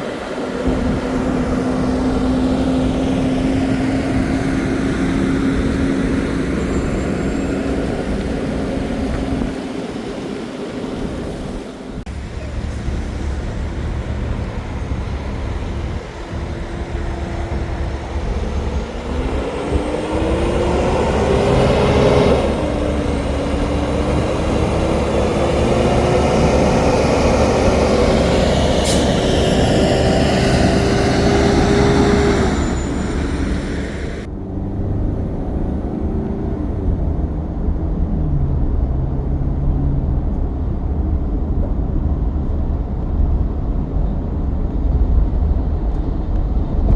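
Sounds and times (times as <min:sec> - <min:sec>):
truck diesel engine under load: 0:00.0 - 0:46.9.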